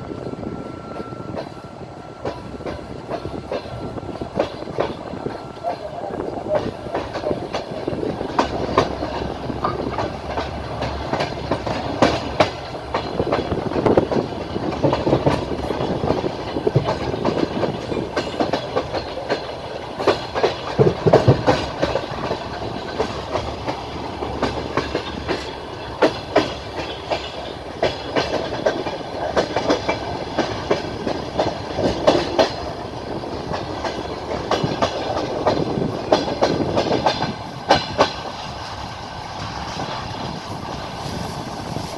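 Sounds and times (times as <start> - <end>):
train rolling rumble: 0.0 - 41.9
train wheels clattering over joints: 0.0 - 41.9.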